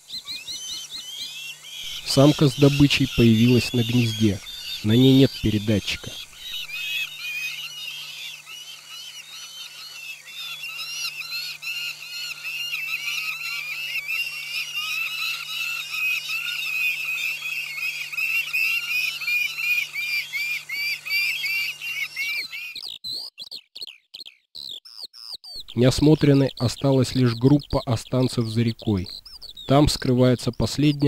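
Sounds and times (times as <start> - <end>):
falcon chicks begging calls: 0.0 - 23.2, 24.6 - 31.0.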